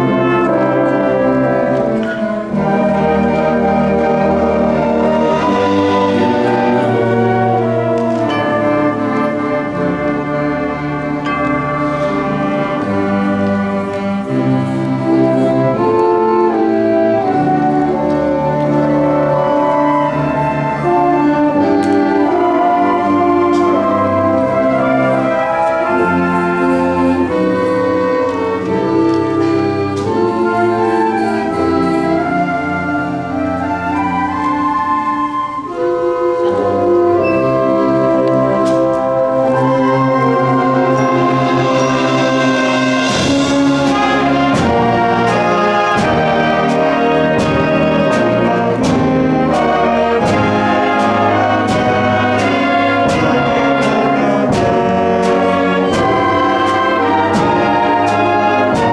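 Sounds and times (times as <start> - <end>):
concert band playing: 0.0 - 58.9
light percussion strokes: 0.0 - 58.9.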